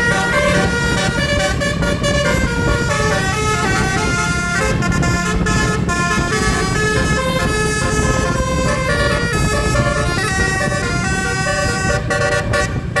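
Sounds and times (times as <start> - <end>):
bus engine running: 0.0 - 13.0
musical air horn tune: 0.0 - 13.0.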